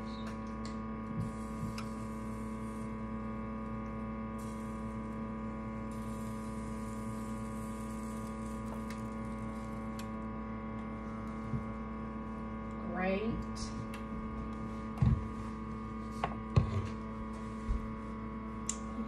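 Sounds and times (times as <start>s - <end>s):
kitchen appliance hum: 0.0s - 19.0s.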